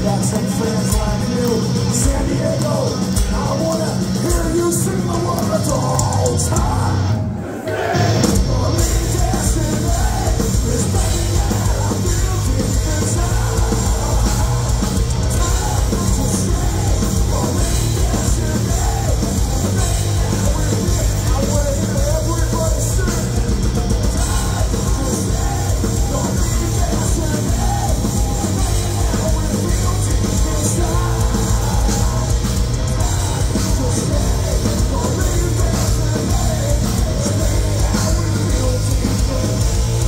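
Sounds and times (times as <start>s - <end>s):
bass guitar: 0.0s - 40.0s
distorted electric guitars: 0.0s - 40.0s
pounding drum kit: 0.0s - 40.0s
shouted sung vocals: 5.7s - 40.0s.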